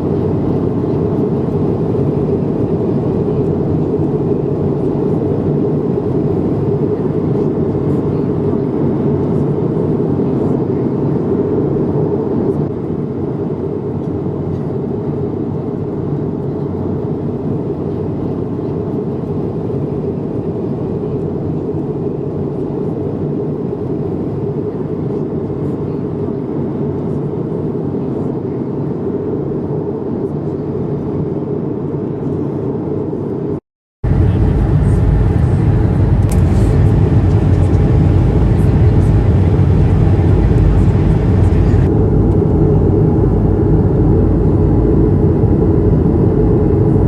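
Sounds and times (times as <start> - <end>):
airplane cabin airflow and engine drone: 0.0 - 47.0.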